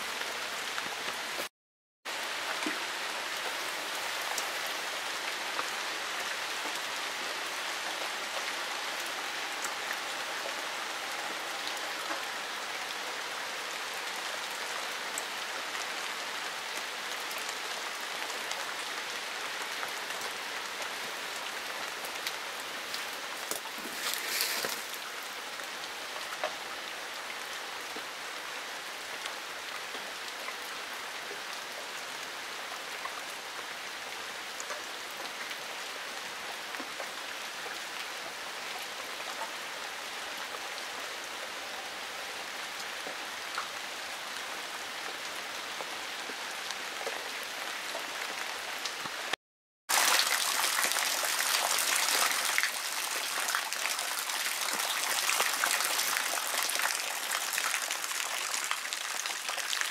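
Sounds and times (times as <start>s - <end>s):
steady rain on plants and paving: 0.0s - 1.5s, 2.1s - 59.9s.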